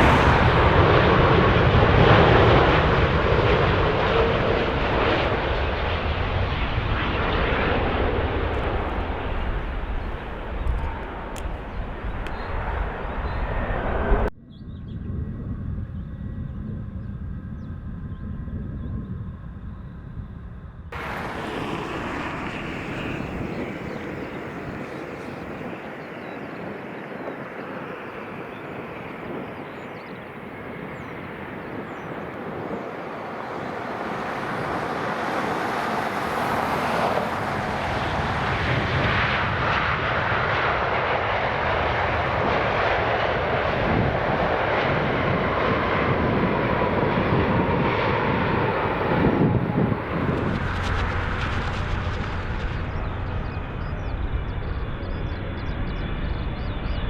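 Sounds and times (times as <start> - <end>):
airliner jet engines landing: 0.0 - 57.0.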